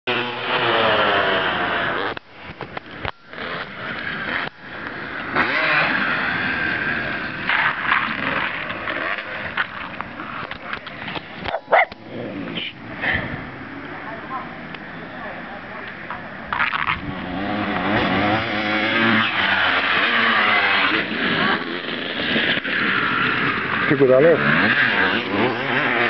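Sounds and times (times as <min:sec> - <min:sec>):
dirt bike engine revving: 0:00.1 - 0:13.8, 0:16.5 - 0:26.0.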